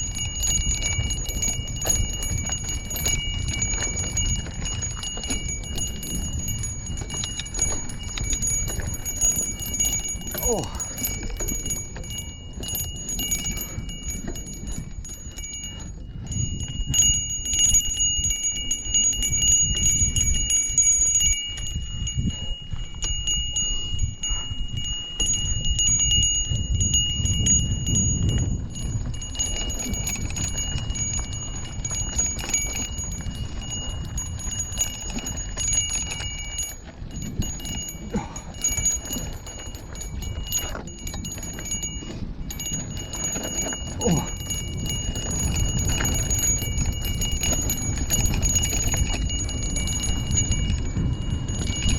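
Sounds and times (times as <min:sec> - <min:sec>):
bicycle bell ringing rapidly: 0:00.0 - 0:51.9
wind and road noise: 0:00.0 - 0:51.9.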